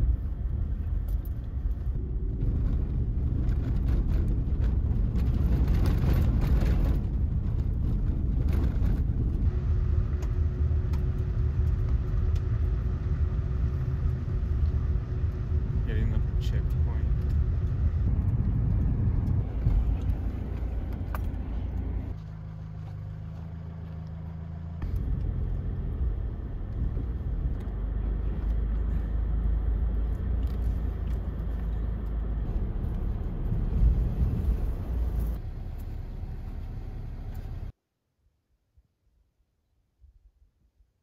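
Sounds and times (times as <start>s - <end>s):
car interior road noise: 0.0s - 37.8s.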